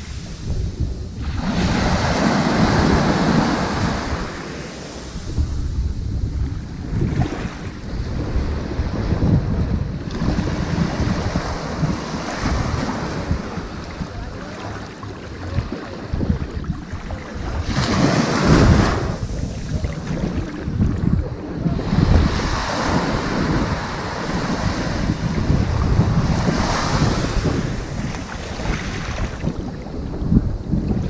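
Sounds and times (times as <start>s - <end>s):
ocean waves washing onto beach: 0.0s - 31.0s
wind rumble on microphone: 0.0s - 31.0s.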